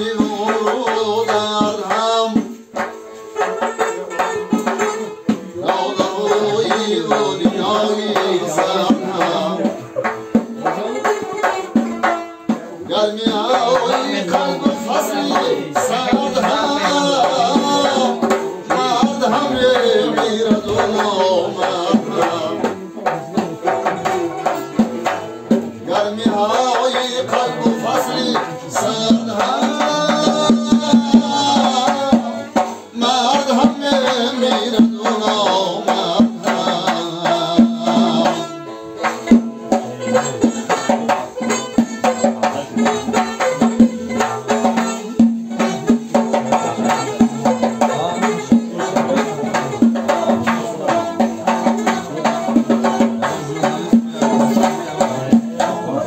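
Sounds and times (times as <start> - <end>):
frame drum beating: 0.0 - 56.0
long-necked lute: 0.0 - 56.0
man singing: 0.0 - 56.0.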